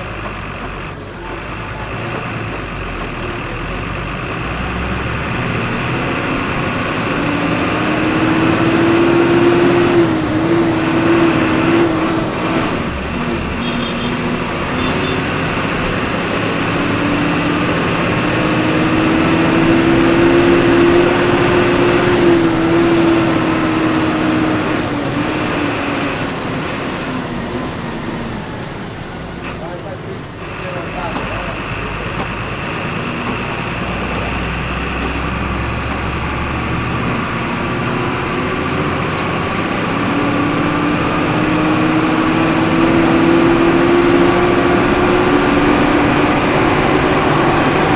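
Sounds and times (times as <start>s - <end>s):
bus diesel engine revving: 0.0s - 47.9s
road noise: 0.0s - 47.9s.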